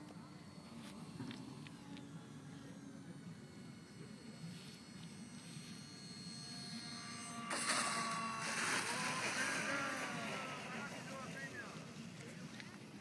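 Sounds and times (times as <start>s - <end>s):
model plane electric fans whining: 0.0s - 13.0s.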